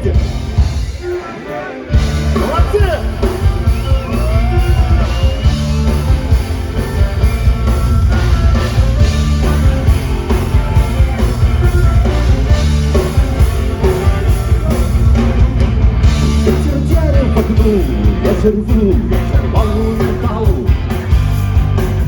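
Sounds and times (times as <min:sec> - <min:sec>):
drums driving beat: 0:00.0 - 0:22.0
punk rock band playing loudly: 0:00.0 - 0:22.0.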